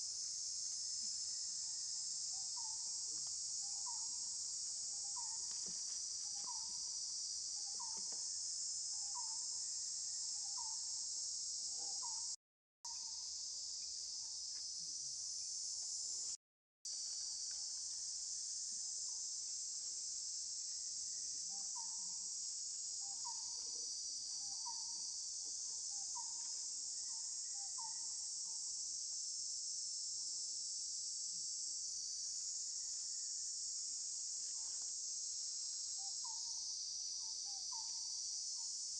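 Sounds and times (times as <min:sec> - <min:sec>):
high-pitched insect chorus: 0:00.0 - 0:38.9
short insect calls: 0:00.0 - 0:38.9.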